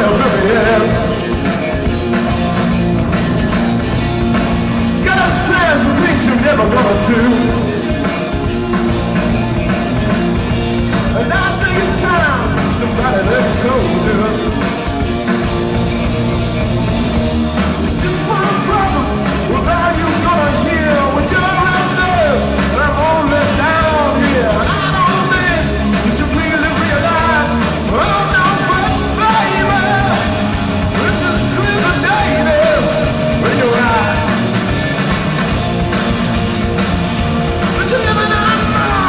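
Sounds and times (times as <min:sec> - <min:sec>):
bass guitar: 0:00.0 - 0:39.0
drums: 0:00.0 - 0:39.0
electric guitars: 0:00.0 - 0:39.0.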